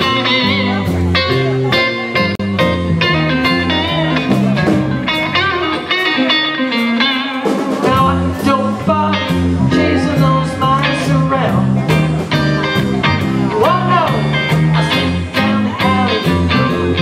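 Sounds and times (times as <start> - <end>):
drums with cymbal hits: 0.0 - 17.0
electric guitar lead: 0.0 - 17.0
walking bass line: 0.0 - 17.0.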